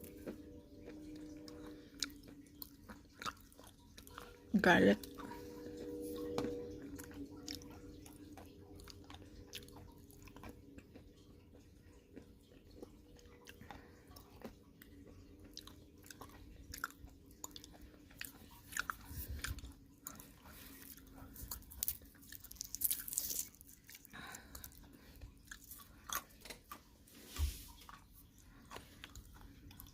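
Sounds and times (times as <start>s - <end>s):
person chewing crunchy nuts: 0.0s - 26.9s, 27.7s - 29.9s.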